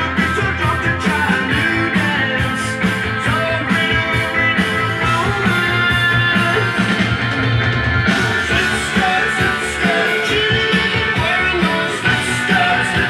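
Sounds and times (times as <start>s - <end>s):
rock song from vinyl record: 0.0s - 13.0s.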